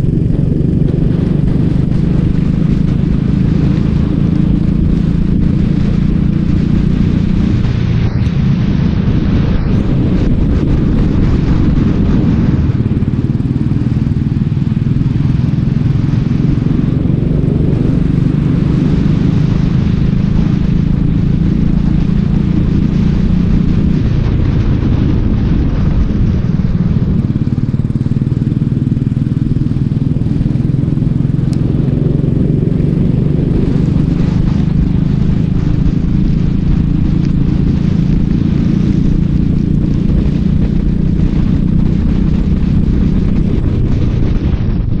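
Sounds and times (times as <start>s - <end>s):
racing kart engine: 0.0s - 45.0s.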